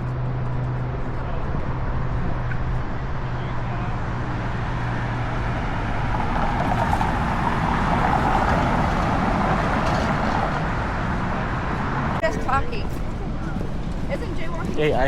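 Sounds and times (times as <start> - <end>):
city street traffic: 0.0 - 15.0
vehicle passing: 0.0 - 15.0.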